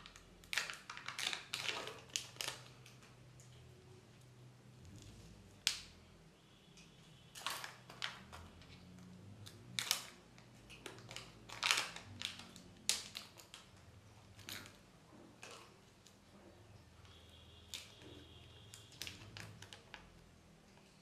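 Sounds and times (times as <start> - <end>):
plastic clicks and foil crinkles: 0.0 - 3.6, 4.8 - 5.9, 6.8 - 16.2, 17.0 - 21.0.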